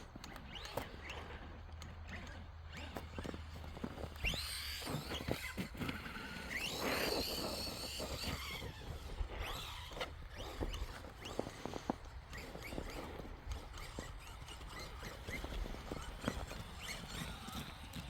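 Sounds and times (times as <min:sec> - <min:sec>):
electric motor whining: 0:00.0 - 0:18.0.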